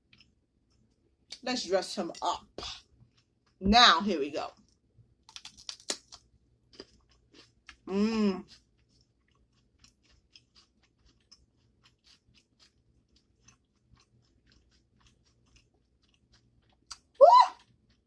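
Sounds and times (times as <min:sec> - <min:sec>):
person chewing food: 0:00.0 - 0:01.4, 0:02.4 - 0:03.6, 0:04.5 - 0:18.0.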